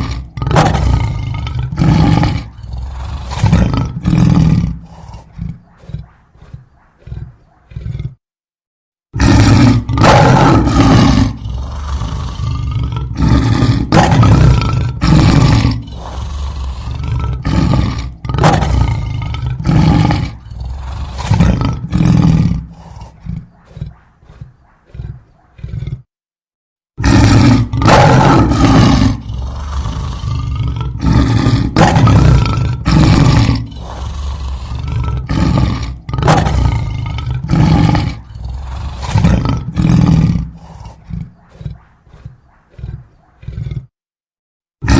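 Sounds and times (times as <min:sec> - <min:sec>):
lion grunting: 0:00.0 - 0:08.2, 0:09.2 - 0:26.1, 0:27.0 - 0:44.0
lion roaring: 0:00.0 - 0:08.2, 0:09.2 - 0:26.1, 0:27.0 - 0:44.0.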